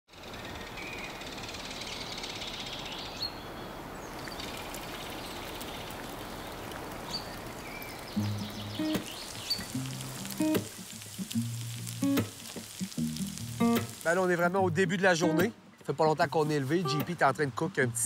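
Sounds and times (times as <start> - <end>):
songbirds chirping: 0.1 - 18.0.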